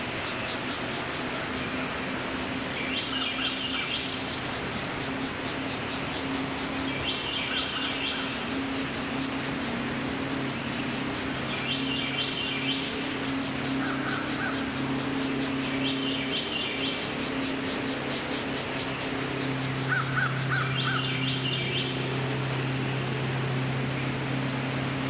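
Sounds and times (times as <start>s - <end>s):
low hum: 0.0s - 25.0s
nestling begging calls: 0.2s - 23.2s.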